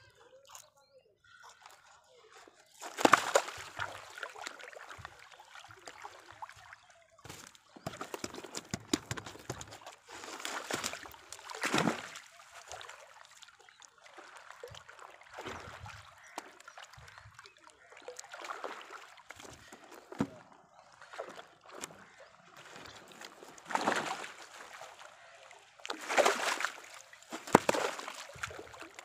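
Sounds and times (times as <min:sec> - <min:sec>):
wet net hauled from water: 0:01.5 - 0:29.0
water splashing and dripping: 0:02.8 - 0:29.0.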